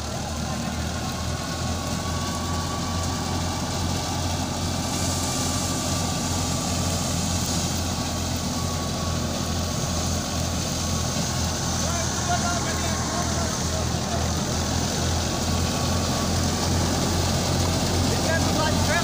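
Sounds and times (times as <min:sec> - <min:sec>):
engine hum: 0:00.0 - 0:19.0
thin steady whine: 0:00.0 - 0:19.0
thresher whirring: 0:00.0 - 0:19.0.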